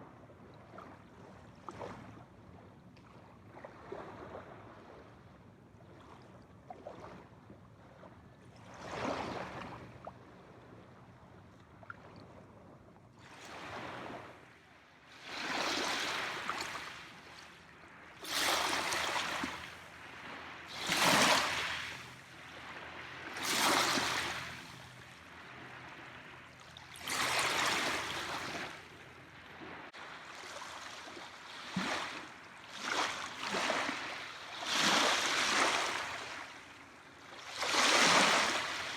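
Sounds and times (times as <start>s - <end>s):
small waves breaking on shore: 0.0s - 12.4s, 13.2s - 38.9s.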